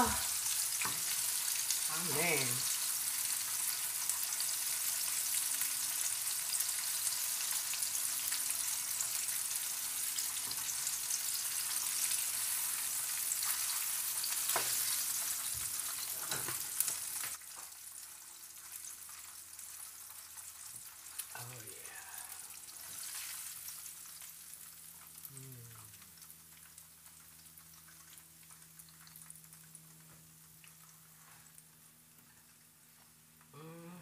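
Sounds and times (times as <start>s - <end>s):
chicken sizzling in a skillet: 0.0s - 33.4s.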